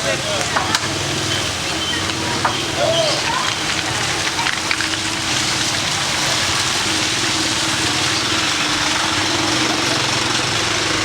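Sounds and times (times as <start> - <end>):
engine idling: 0.0 - 11.0
outdoor noise hiss: 0.0 - 11.0.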